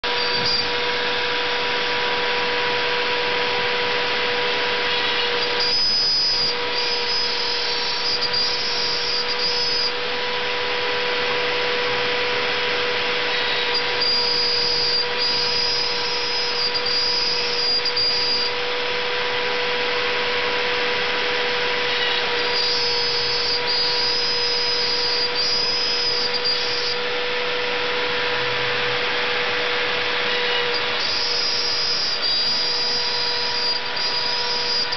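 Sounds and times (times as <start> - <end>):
higher-pitched whine: 0.0 - 34.9
router spindle whine: 0.0 - 34.9
wood cutting noise: 0.0 - 34.9.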